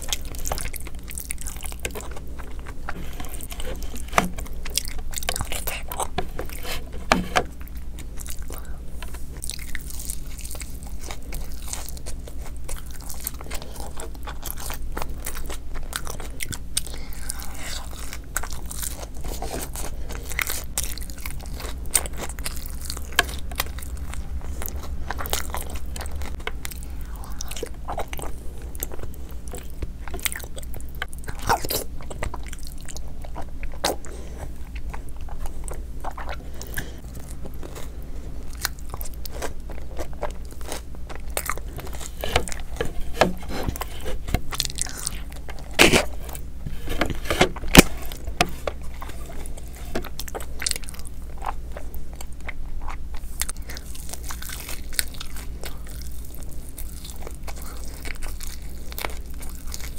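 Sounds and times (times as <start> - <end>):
person chewing crunchy food: 0.0 - 59.9
steady low hum: 0.0 - 59.9.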